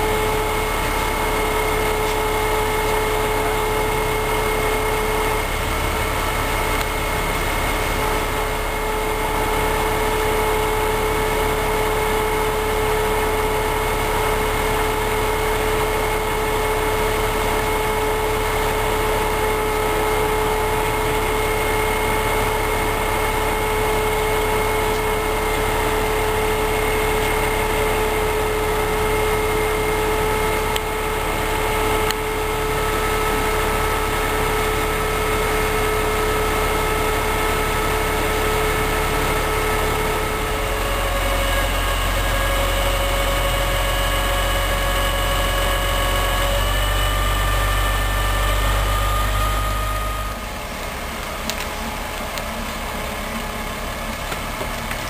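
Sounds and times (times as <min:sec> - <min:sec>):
crane engine running: 0:00.0 - 0:55.0
steady whine: 0:00.0 - 0:55.0.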